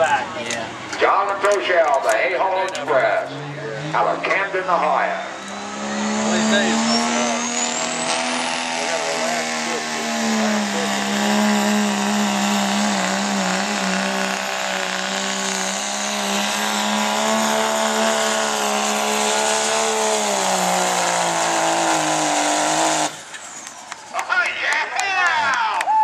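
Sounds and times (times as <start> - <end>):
diesel truck engine revving hard: 2.8 - 23.9.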